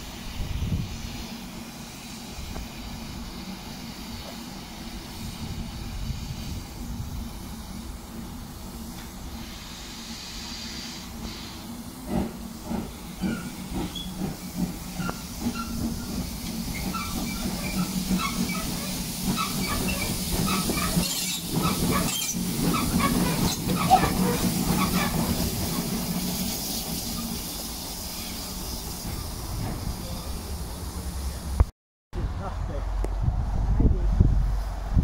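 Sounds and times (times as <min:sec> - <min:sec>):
steam hissing: 0:00.0 - 0:31.7
steam locomotive exhaust beats: 0:00.0 - 0:31.7.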